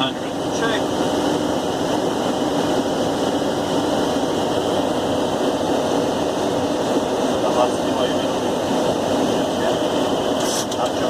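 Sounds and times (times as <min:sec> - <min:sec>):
cockpit airflow and engine noise: 0:00.0 - 0:11.0.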